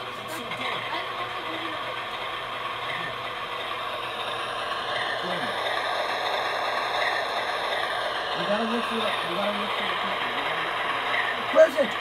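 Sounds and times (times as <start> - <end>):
model train whirring and rattling: 0.0 - 12.0.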